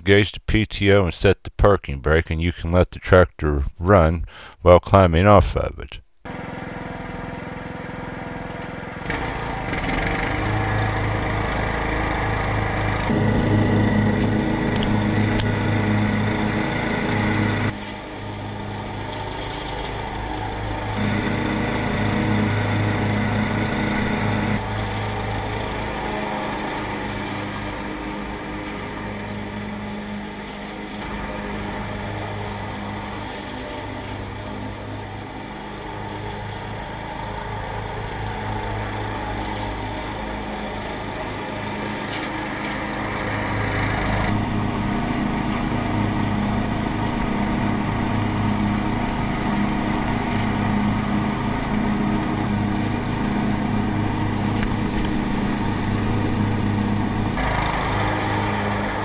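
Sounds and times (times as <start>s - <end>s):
riding mower engine running: 5.2s - 59.0s.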